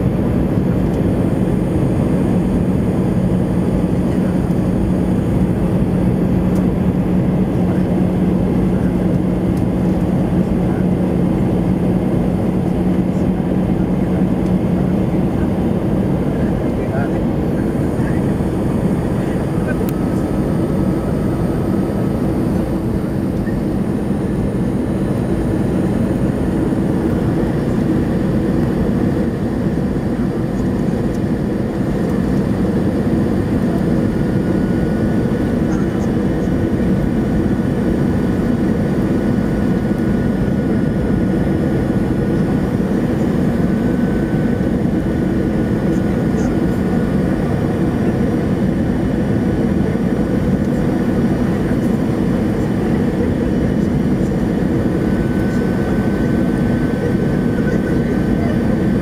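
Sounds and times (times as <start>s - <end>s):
jet engines and airflow rushing: 0.0s - 59.0s.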